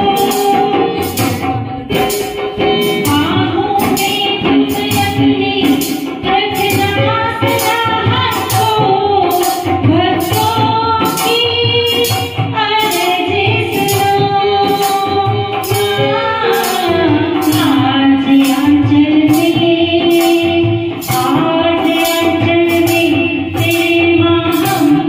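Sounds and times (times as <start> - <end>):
electronic keyboard backing: 0.0 - 25.0
percussion beat of sharp hits: 0.0 - 25.0
woman singing devotional song: 0.0 - 25.0.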